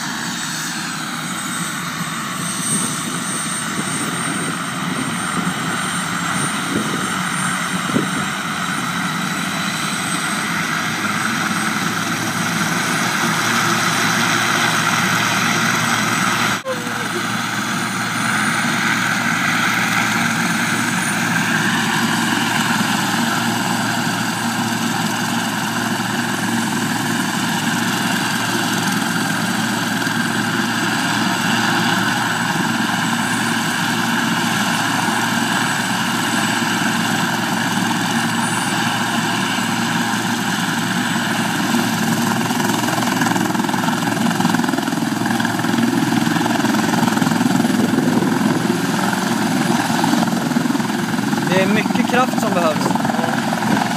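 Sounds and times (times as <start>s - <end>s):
helicopter rotor noise: 0.0s - 53.9s
helicopter turbine whine: 0.0s - 53.9s.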